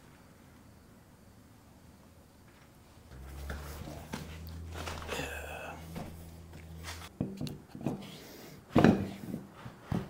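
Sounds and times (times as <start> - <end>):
steady low hum: 0.3 - 9.2.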